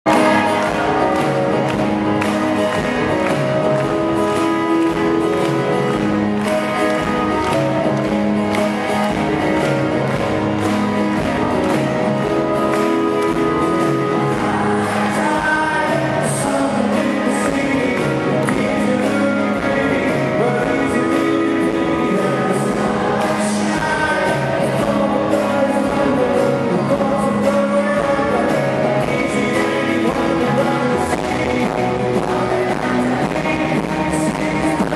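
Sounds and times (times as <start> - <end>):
person singing lead vocal: 0.1 - 8.1, 12.0 - 34.9
live rock band: 0.1 - 34.9.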